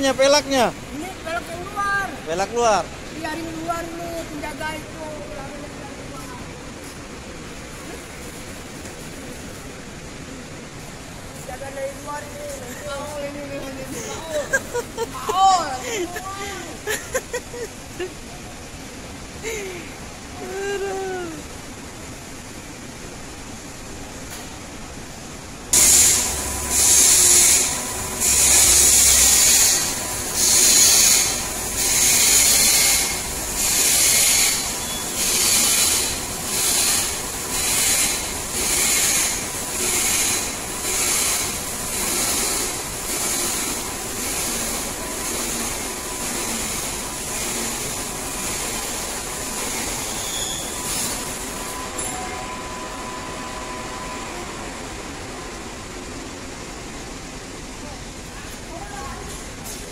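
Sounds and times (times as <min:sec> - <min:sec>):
rhythmic pulsing hiss: 0:00.0 - 0:59.9.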